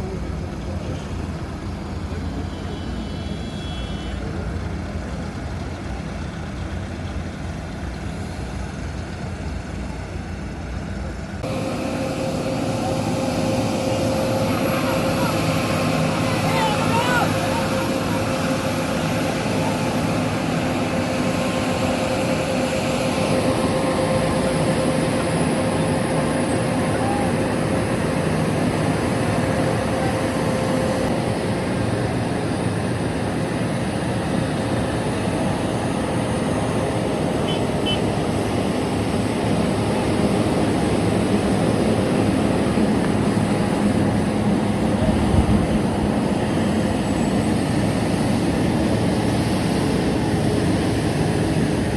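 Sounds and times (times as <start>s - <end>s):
heavy truck engines running: 0.0s - 51.9s.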